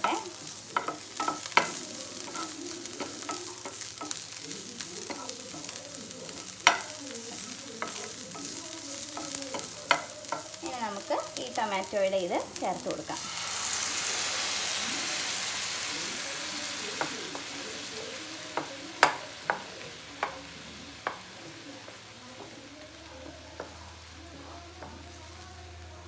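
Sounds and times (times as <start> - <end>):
vegetables sizzling in a pan: 0.0 - 26.0.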